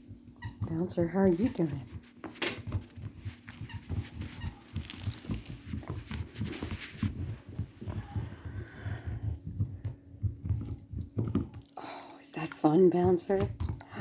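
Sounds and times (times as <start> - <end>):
dog chewing on a toy: 0.0 - 14.0.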